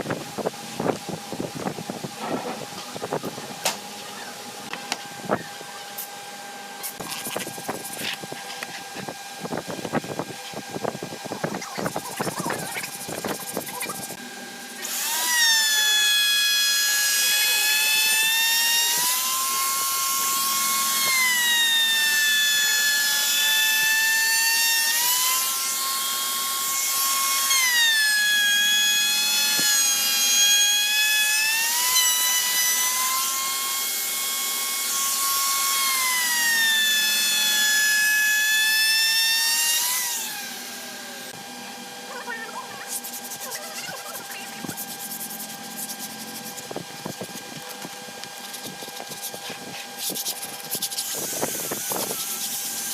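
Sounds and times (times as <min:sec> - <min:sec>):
power tool whining cutting wood: 0:00.0 - 0:52.9.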